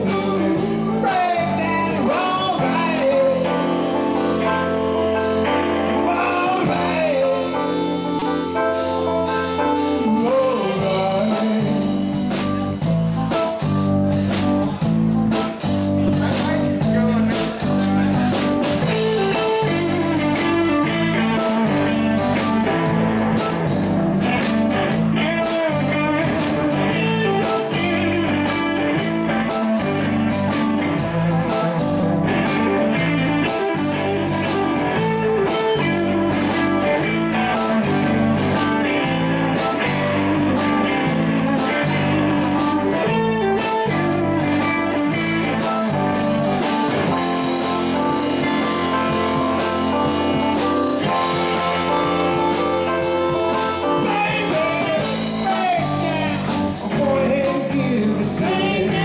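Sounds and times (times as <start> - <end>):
saxophone: 0.0 - 12.3, 16.0 - 56.8
drum kit beat: 0.0 - 59.0
electric bass: 0.0 - 59.0
electric guitar: 0.0 - 59.0.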